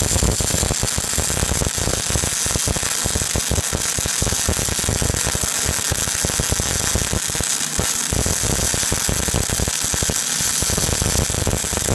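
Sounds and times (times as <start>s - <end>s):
welding arc crackling and hissing: 0.0s - 11.9s.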